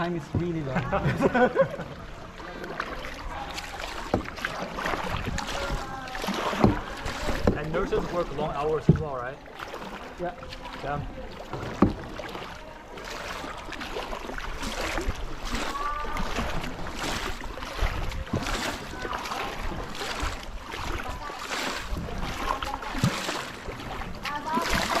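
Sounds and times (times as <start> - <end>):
paddles splashing in water: 0.0 - 25.0.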